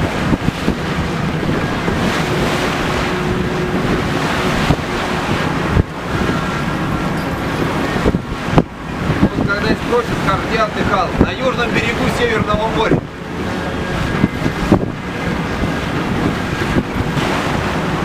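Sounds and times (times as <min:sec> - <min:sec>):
waves and rushing water: 0:00.0 - 0:18.0
wind buffeting microphone: 0:00.0 - 0:18.0.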